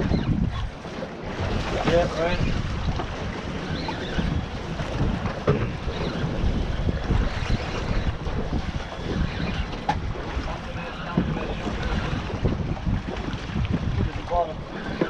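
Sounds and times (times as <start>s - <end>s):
water lapping against boat hull: 0.0s - 15.0s
wind buffeting microphone: 0.0s - 15.0s.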